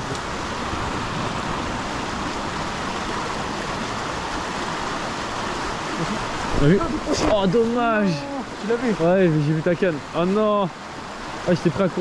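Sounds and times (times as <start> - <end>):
stream rushing over riffle: 0.0 - 12.0.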